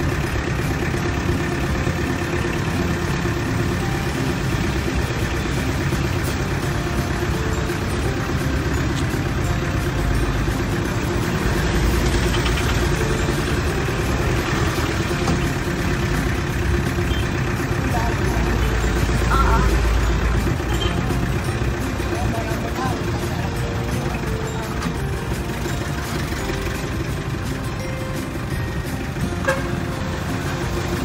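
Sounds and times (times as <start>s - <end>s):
passing traffic: 0.0s - 31.0s
road rumble and hiss: 0.0s - 31.0s
vehicle engine running: 0.0s - 31.0s.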